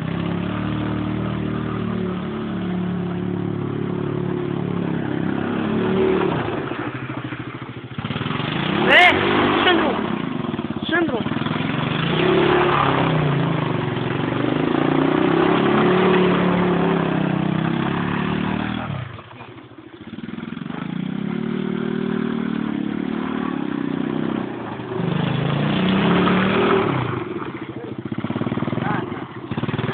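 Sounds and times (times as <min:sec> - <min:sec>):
atv engine revving: 0:00.0 - 0:29.9.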